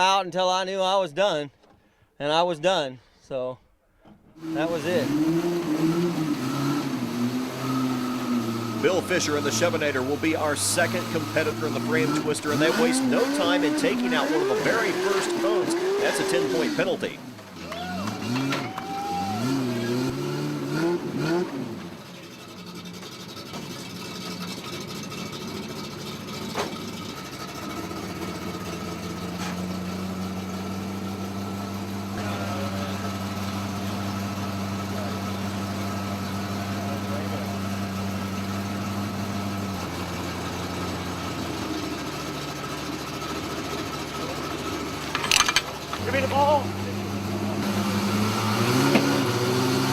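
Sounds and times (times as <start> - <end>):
truck engine droning: 4.0 - 49.9.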